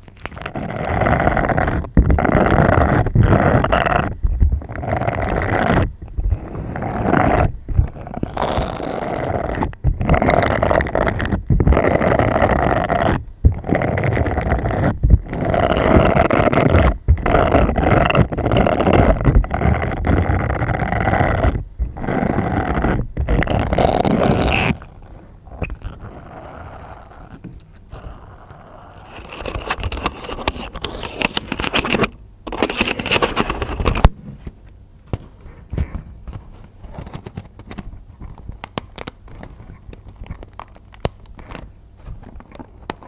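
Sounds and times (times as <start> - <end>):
rough scratching and rubbing: 0.0 - 43.0.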